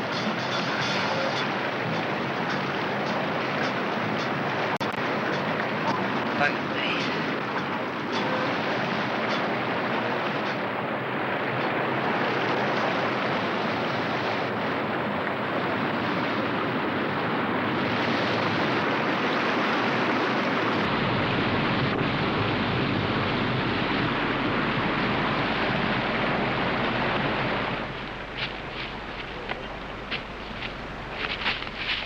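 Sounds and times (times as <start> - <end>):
river white water rushing: 0.0 - 32.0.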